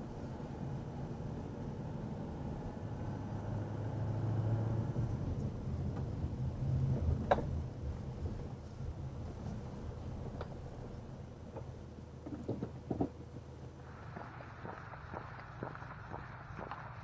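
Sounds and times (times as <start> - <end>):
car engine and road drone: 0.0 - 17.0.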